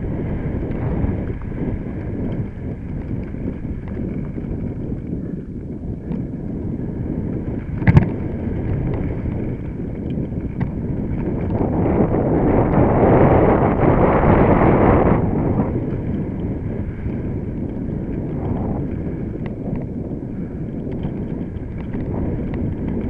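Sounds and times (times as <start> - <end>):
bike tyres on rough ground: 0.0 - 23.0
wind buffeting microphone: 0.0 - 23.0.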